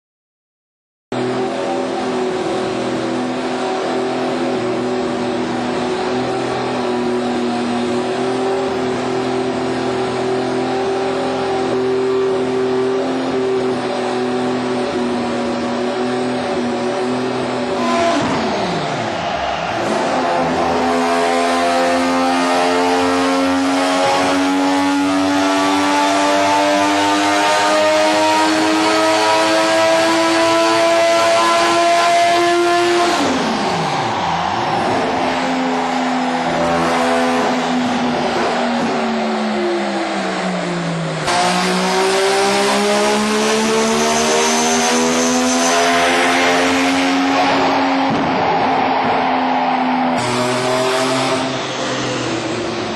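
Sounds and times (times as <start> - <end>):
rotary engine revving: 1.2 - 52.9.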